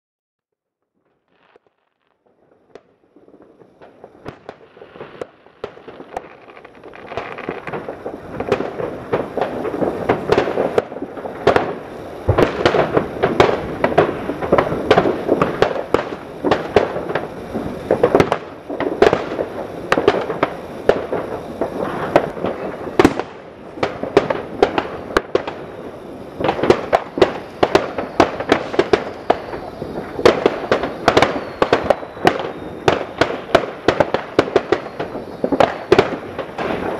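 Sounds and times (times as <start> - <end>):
fireworks bangs and crackles: 0.8 - 36.9.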